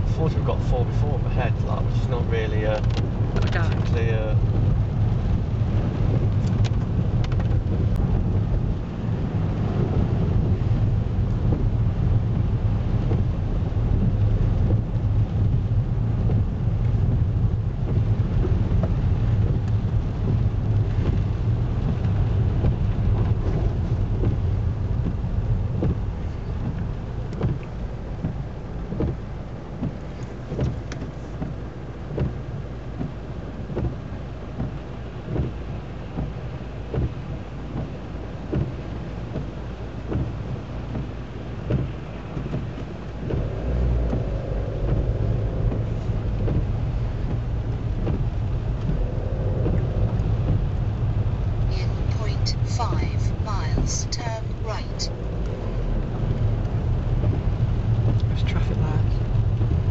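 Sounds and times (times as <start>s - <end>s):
car engine from inside: 0.0s - 59.9s
road rumble: 0.0s - 59.9s.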